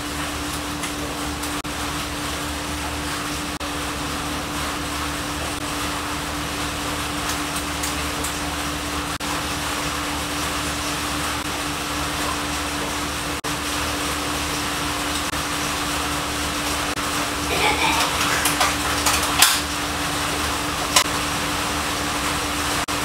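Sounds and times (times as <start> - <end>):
mechanical hum and hiss: 0.0 - 23.0.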